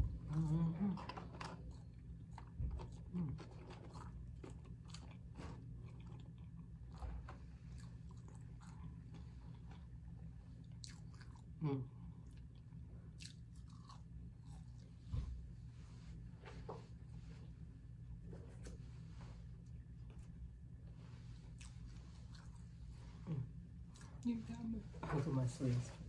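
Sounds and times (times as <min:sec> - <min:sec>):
low hummed voice: 0:00.0 - 0:26.0.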